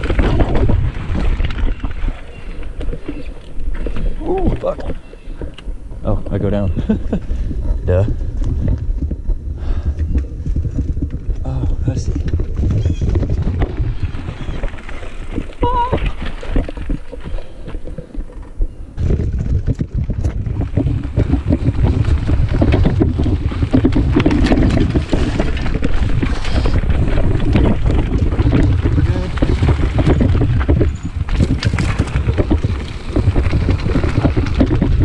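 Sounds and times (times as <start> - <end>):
bike rattles and clicks: 0.0 - 35.0
wind buffeting microphone: 0.0 - 35.0.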